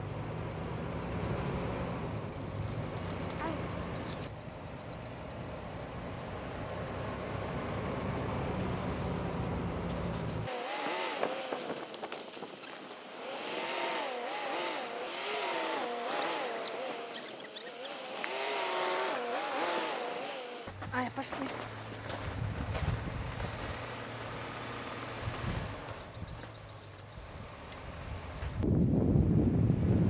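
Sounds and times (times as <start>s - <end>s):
engine deep rumble: 0.0s - 30.0s.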